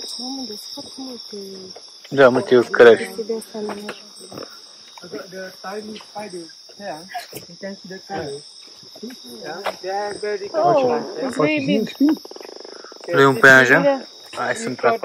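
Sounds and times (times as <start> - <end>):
people talking: 0.0 - 8.4, 9.0 - 12.2, 13.0 - 15.0
insects shrill chorus: 0.0 - 15.0.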